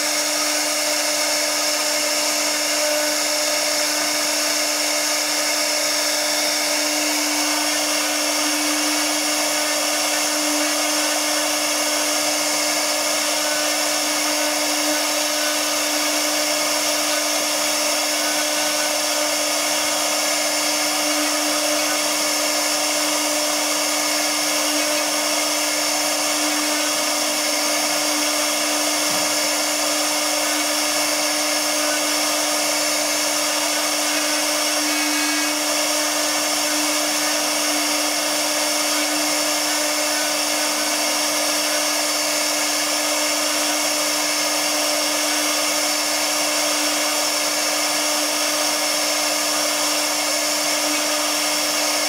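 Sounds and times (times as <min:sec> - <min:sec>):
hiss of bit cutting wood: 0:00.0 - 0:52.0
router spindle whine: 0:00.0 - 0:52.0.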